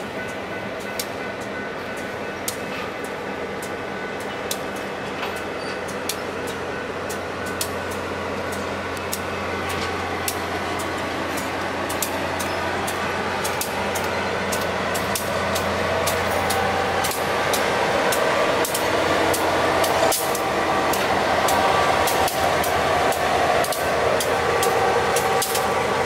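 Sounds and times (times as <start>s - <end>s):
diesel locomotive engine: 0.0s - 26.0s
wheels clicking on track: 0.0s - 26.0s.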